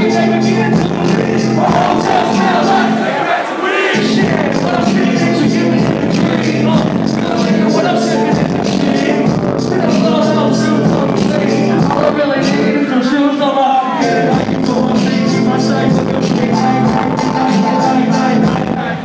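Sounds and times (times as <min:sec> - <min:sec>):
hip-hop beat with heavy bass: 0:00.0 - 0:03.2, 0:03.9 - 0:19.0
vocals over a beat: 0:00.0 - 0:19.0.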